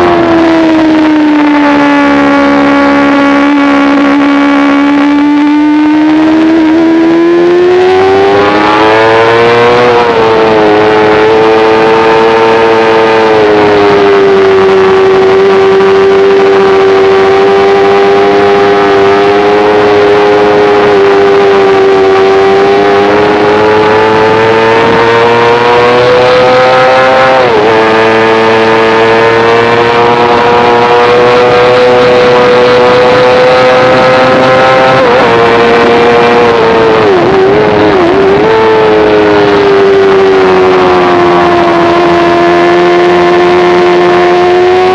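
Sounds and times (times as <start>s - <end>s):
motorcycle engine revving high: 0.0s - 44.9s.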